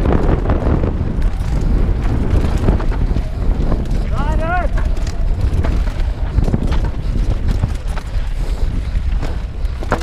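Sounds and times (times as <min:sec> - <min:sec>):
mountain bike rattling: 0:00.0 - 0:10.0
wind buffeting microphone: 0:00.0 - 0:10.0.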